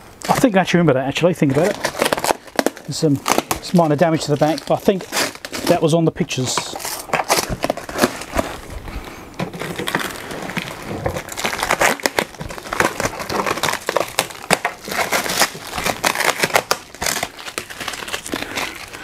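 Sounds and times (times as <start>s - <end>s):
foam packing blocks crunching: 0.0s - 19.0s
plastic and bubble wrap crinkling: 0.0s - 19.0s.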